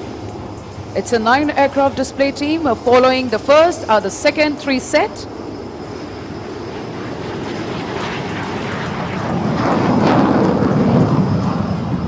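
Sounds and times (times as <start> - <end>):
jet engines taking off: 0.0 - 12.0.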